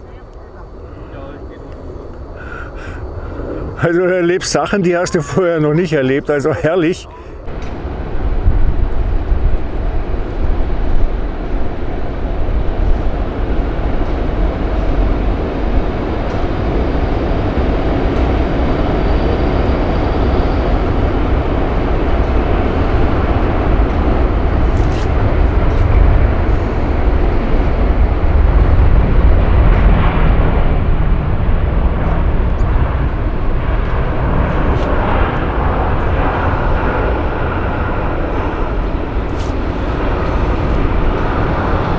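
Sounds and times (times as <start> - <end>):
jet engines rumbling: 0.0 - 6.5, 7.4 - 41.9.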